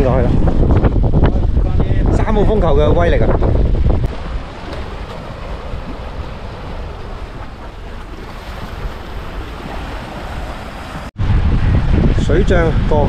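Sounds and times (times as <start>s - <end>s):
rough sea waves washing in: 0.0s - 13.0s
wind buffeting microphone: 0.0s - 13.0s.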